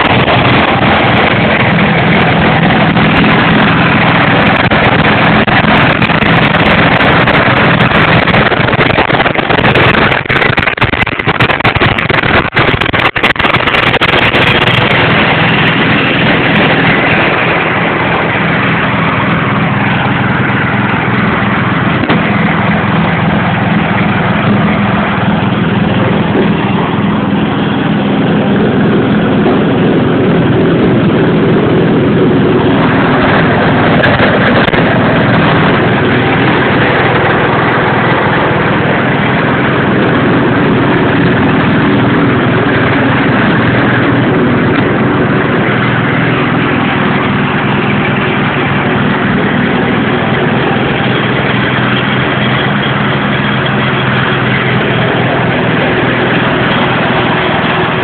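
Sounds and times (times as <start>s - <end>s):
loud crackles: 0.0s - 58.0s
small engine running: 0.0s - 58.0s.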